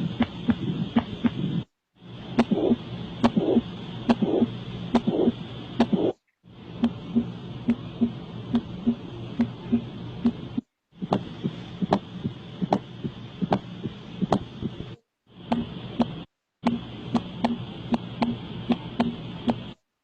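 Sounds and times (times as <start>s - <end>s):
heartbeat: 0.0s - 1.7s, 2.3s - 19.7s.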